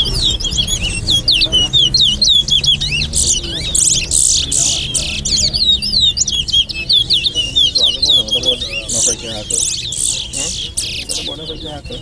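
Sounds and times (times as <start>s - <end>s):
finches singing whistled chirps: 0.0s - 12.0s.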